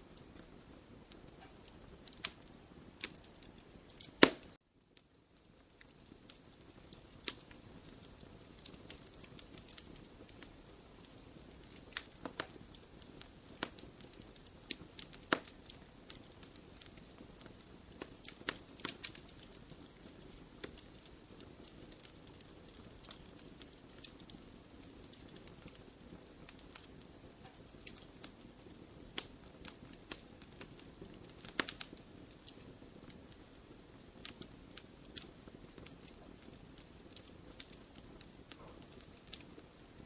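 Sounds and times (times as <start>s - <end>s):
soft steady hiss of fire: 0.0s - 40.0s
wood fire crackling and popping: 0.0s - 40.0s.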